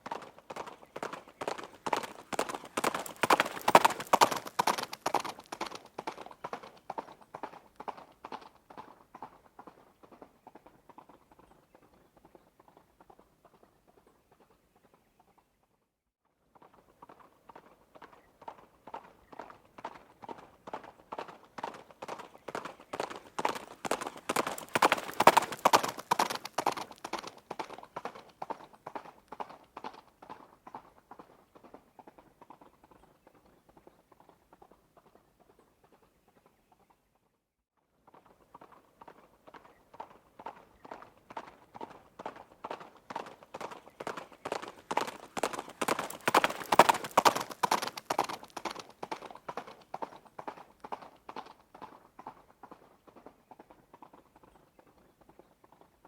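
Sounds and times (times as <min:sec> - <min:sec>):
horse hooves galloping: 0:00.0 - 0:15.0, 0:16.6 - 0:36.6, 0:38.1 - 0:56.0.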